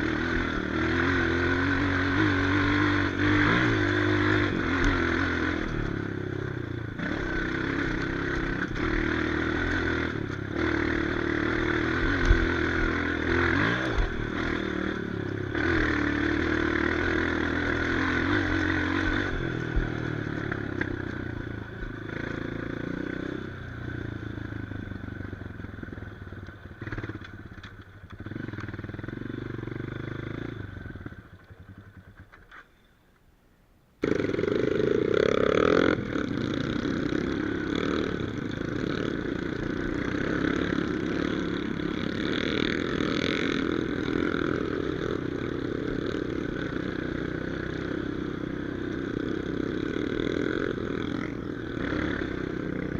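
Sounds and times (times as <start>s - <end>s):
motorcycle engine revving: 0.0s - 32.8s, 34.0s - 52.9s.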